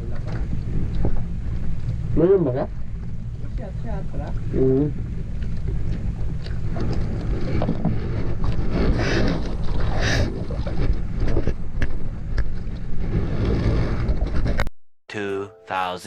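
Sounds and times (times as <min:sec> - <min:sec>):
boat engine running: 0:00.0 - 0:14.4.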